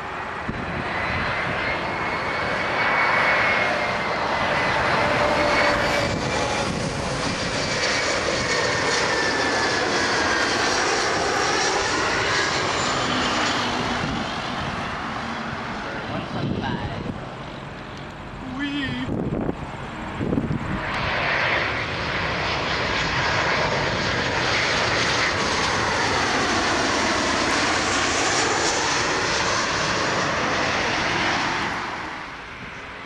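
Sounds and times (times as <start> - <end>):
airliner passing overhead: 0.0 - 33.0.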